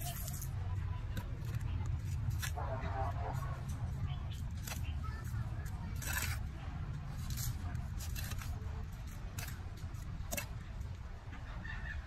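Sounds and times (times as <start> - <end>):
trowel scraping dry soil: 0.0 - 11.1.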